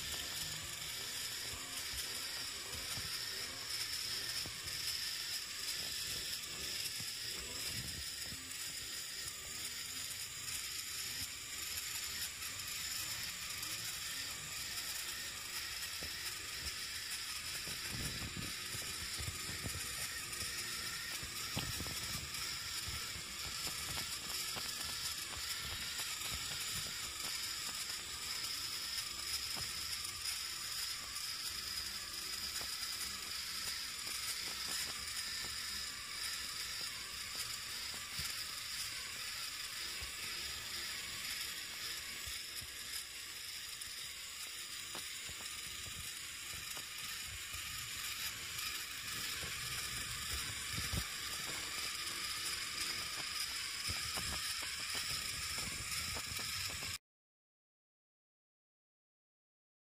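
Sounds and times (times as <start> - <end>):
toy robot motor whirring: 0.0 - 57.0.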